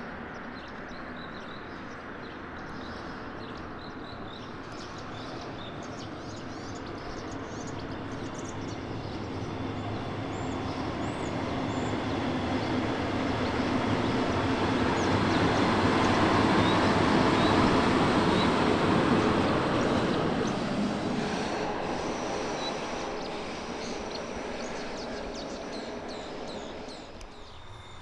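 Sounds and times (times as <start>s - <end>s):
train wheels rumbling on rails: 3.2s - 28.0s.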